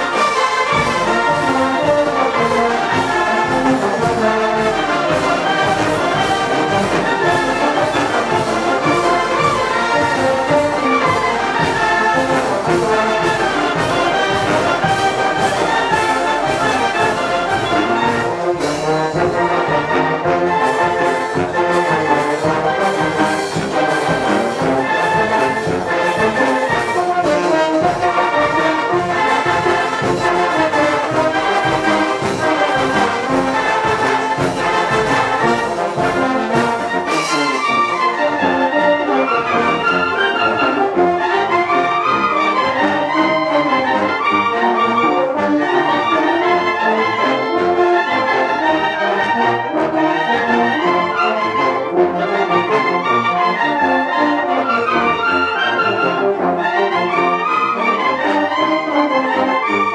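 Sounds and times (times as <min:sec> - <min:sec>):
wind band playing: 0:00.0 - 0:59.9.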